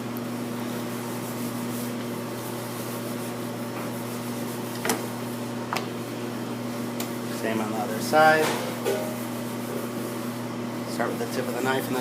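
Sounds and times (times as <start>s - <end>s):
electrical hum from kitchen equipment: 0.0s - 12.0s.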